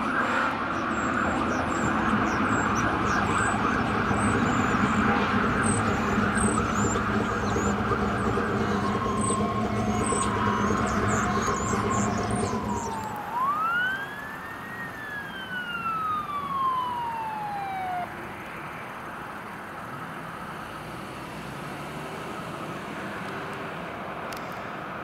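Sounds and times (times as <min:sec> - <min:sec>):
fire truck siren wailing: 0:00.0 - 0:20.6
steady road noise: 0:00.0 - 0:25.0.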